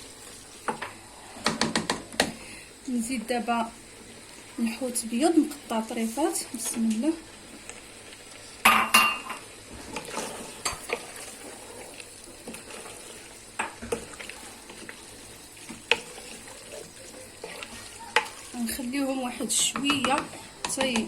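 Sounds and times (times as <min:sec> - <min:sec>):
sauce sizzling: 0:00.0 - 0:21.0.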